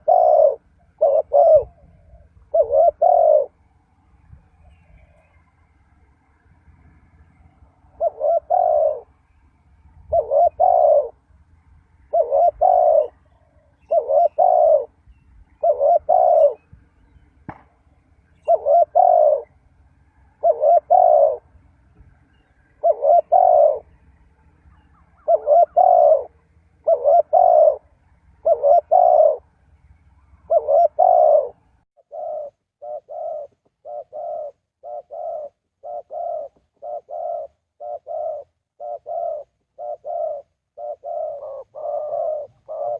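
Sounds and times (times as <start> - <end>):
dove cooing: 0.0 - 3.7, 7.0 - 11.3, 11.9 - 17.2, 18.2 - 42.9.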